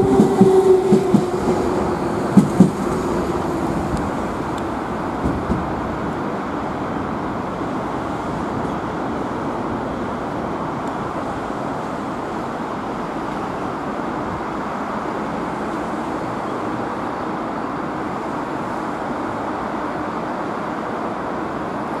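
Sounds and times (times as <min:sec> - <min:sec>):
urban background rumble and hiss: 0:00.0 - 0:22.0.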